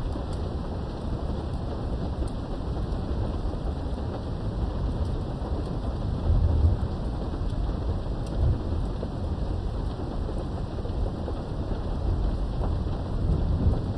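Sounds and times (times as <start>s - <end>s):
rain behind a window: 0.0s - 13.9s
thunder rumbling: 0.0s - 13.9s.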